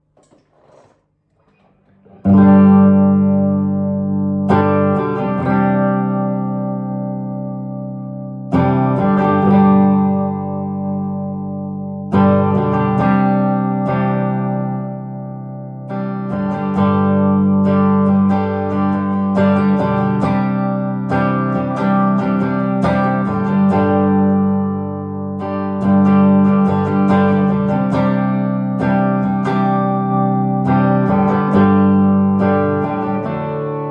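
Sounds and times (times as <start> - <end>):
electric guitar chords ringing: 2.1 - 33.9.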